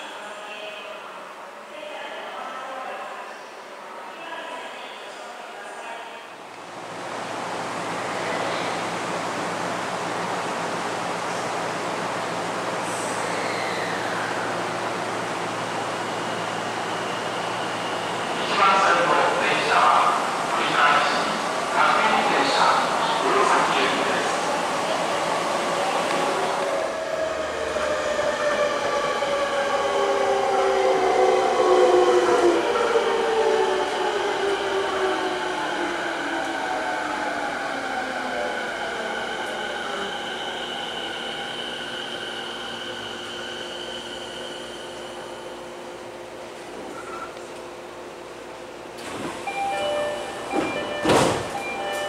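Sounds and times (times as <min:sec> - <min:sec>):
rumble of train cars: 0:06.4 - 0:52.0.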